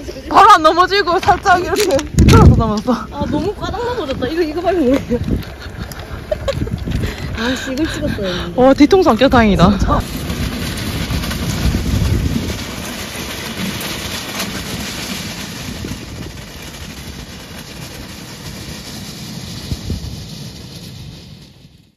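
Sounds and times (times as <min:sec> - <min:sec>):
tyres crunching over stones: 0:00.4 - 0:21.4.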